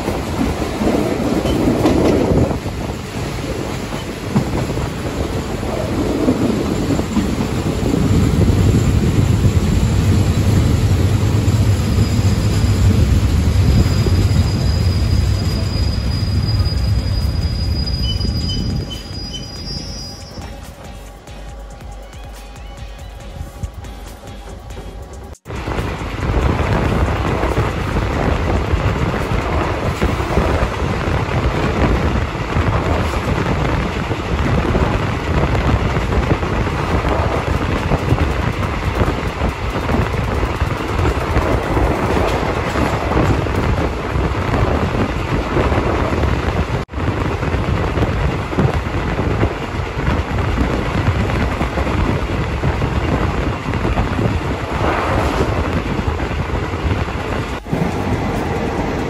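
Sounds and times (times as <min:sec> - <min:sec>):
moving train rumble: 0:00.0 - 0:59.0.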